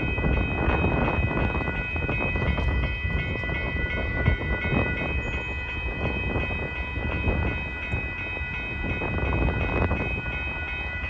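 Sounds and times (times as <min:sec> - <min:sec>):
crossing warning bell ringing: 0:00.0 - 0:11.0
freight train rumble: 0:00.0 - 0:11.0.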